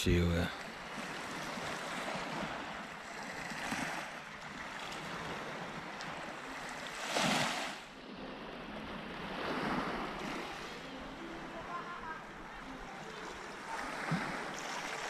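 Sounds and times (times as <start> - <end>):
waves washing on shingle beach: 0.0 - 15.0.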